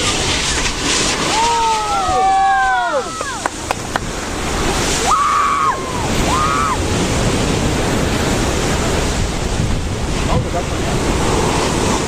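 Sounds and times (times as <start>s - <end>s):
stormy sea surf: 0.0s - 12.0s
wind buffeting microphone: 0.0s - 12.0s.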